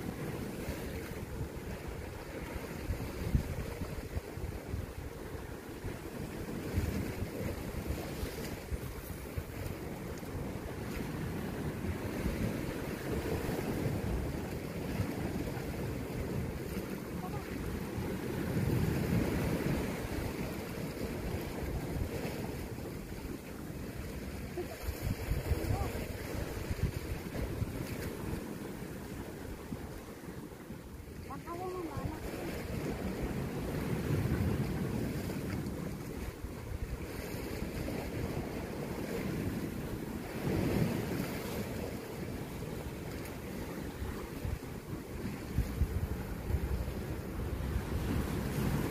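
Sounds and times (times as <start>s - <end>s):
sea waves against rocks: 0.0s - 48.9s
wind on the microphone: 0.0s - 48.9s.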